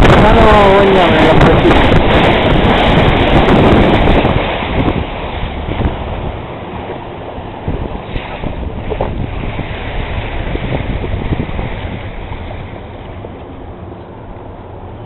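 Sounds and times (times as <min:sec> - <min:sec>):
water rushing past boat: 0:00.0 - 0:15.0
wind buffeting microphone: 0:00.0 - 0:15.0.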